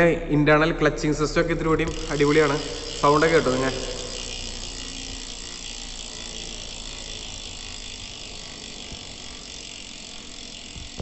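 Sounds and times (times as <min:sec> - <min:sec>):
bicycle freehub ratchet clicking: 0:01.7 - 0:11.0.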